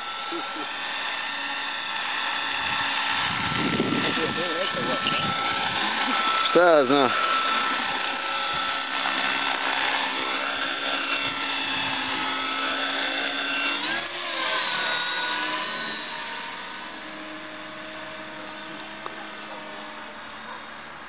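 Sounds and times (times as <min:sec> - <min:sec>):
rc helicopter rotor whine: 0:00.0 - 0:21.0.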